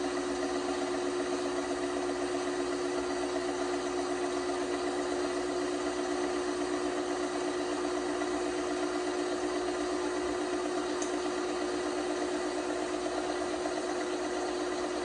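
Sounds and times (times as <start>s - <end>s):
washing machine hum: 0.0s - 15.0s.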